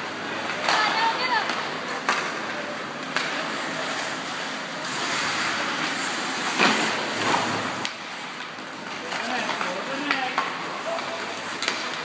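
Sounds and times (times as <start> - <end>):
skates scraping ice: 0.0 - 12.0.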